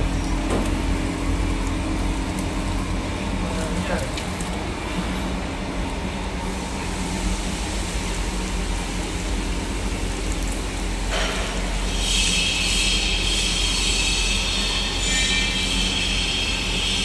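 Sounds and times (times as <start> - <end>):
electric pump motor humming: 0.0 - 17.0.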